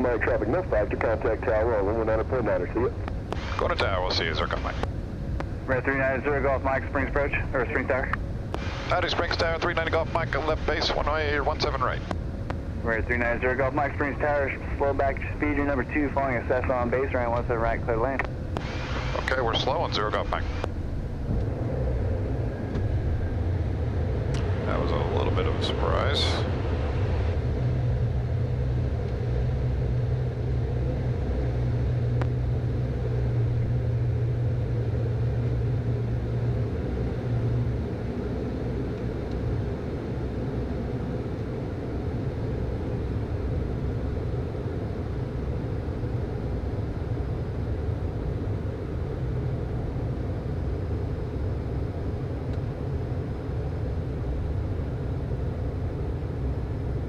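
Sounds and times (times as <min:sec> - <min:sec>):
jet engine and airflow drone: 0:00.0 - 0:57.0.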